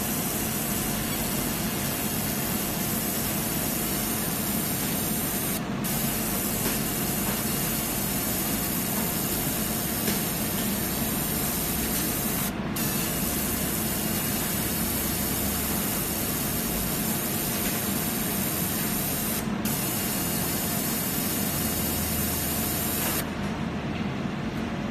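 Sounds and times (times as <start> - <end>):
laser engraver hissing: 0.0 - 23.3.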